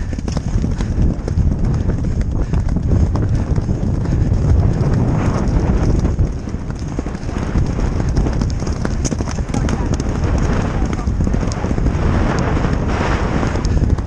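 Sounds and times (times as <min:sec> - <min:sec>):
horse hoofbeats galloping on turf: 0:00.0 - 0:14.0.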